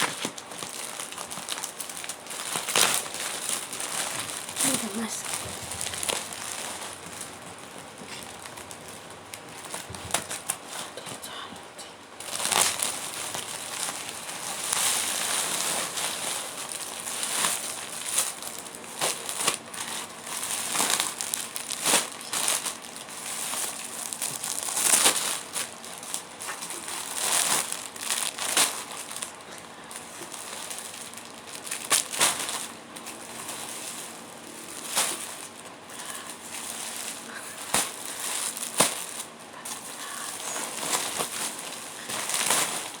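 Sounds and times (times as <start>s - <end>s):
packaging crinkling and crackling: 0.0s - 11.4s, 12.1s - 43.0s.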